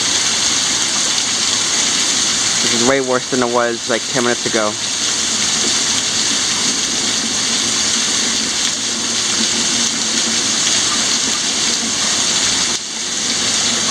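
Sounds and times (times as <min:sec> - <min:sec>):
heavy rain pouring: 0:00.0 - 0:13.9.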